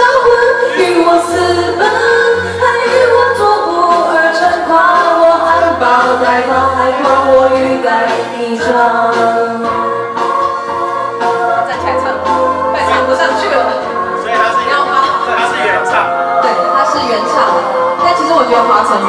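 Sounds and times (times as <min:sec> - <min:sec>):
woman singing pop song: 0:00.0 - 0:15.6, 0:16.2 - 0:19.0
backing track: 0:00.0 - 0:19.0.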